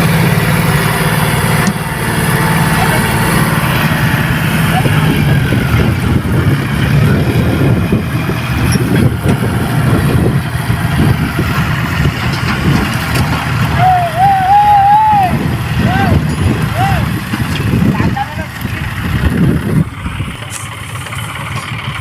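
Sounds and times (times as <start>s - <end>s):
tractor diesel engine running: 0.0s - 22.0s
voices: 1.1s - 22.0s.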